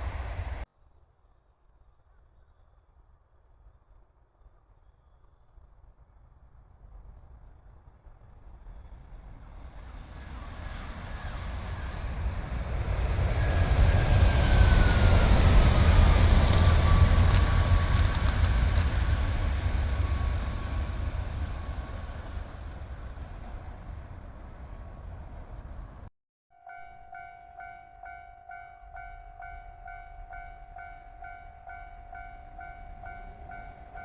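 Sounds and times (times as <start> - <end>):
train rumbling past: 0.0 - 0.7, 6.0 - 34.0.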